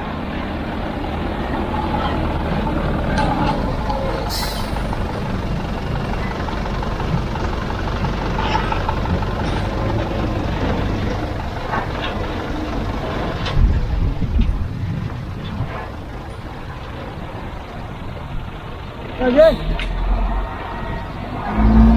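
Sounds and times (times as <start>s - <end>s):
diesel machinery rumble: 0.0s - 21.9s.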